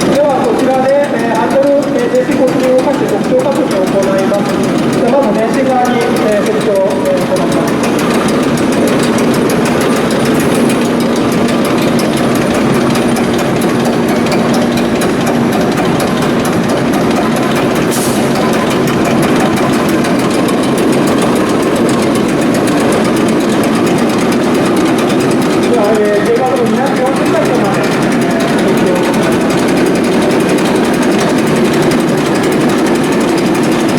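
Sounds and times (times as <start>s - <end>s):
diesel engine clattering: 0.0s - 33.9s.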